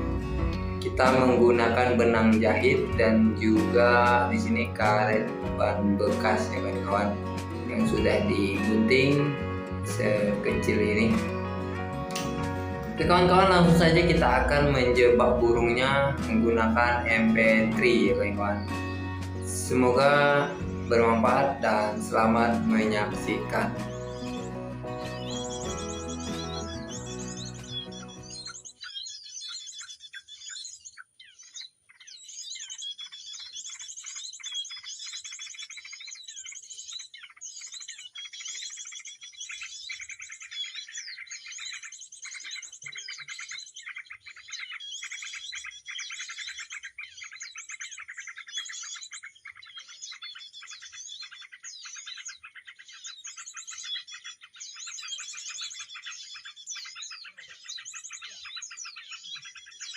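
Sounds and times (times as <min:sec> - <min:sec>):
recorded bird song chirps and trills: 0:00.0 - 0:59.9.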